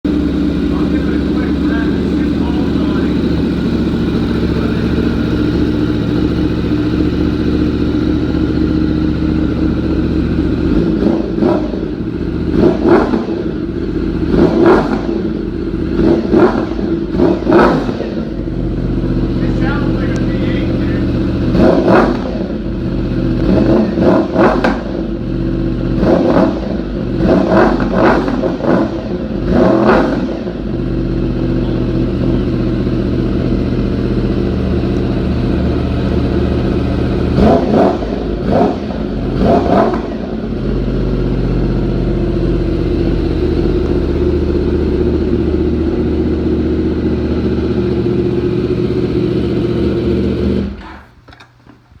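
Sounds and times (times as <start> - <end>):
motorcycle engine idling with revs: 0.0 - 52.0.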